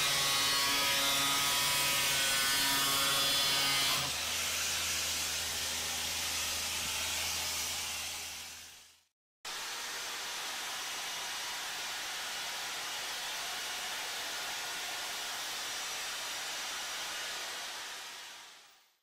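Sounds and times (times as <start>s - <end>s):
power tool running: 0.0s - 8.8s, 9.5s - 18.7s.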